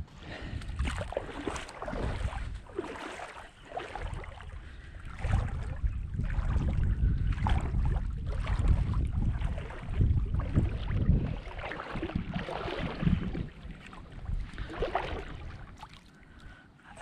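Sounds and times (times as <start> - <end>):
wind rumbling on microphone: 0.0 - 15.8
small water splashes: 0.2 - 16.6
shallow sea water washing: 0.2 - 16.7.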